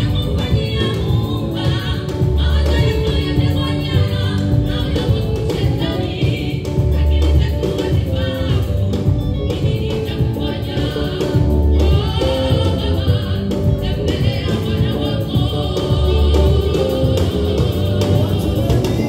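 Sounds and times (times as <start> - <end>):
bass: 0.0 - 19.0
drum kit: 0.0 - 19.0
gospel choir singing: 0.0 - 19.0.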